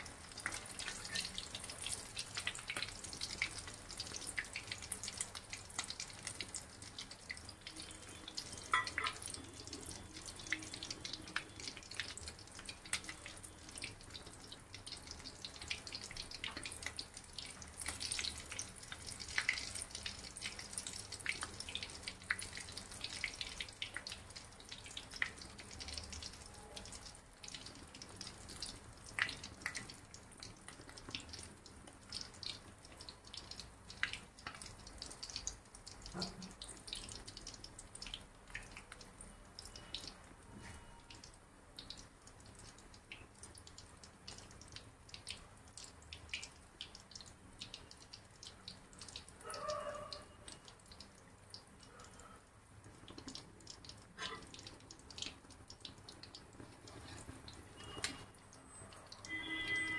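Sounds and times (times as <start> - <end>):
oil crackling and popping: 0.0 - 49.6, 50.4 - 59.9
deep-frying sizzle: 0.0 - 59.9.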